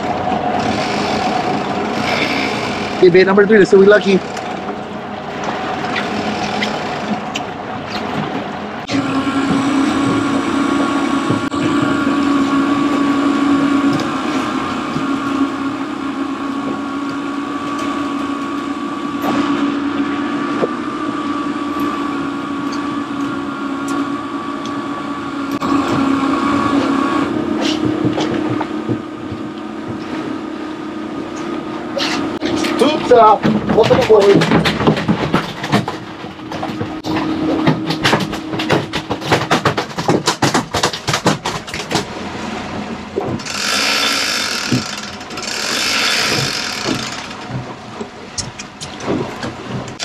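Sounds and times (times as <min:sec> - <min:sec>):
boat engine humming: 0:00.0 - 0:50.0
water wash: 0:00.0 - 0:50.0
wind: 0:00.0 - 0:50.0.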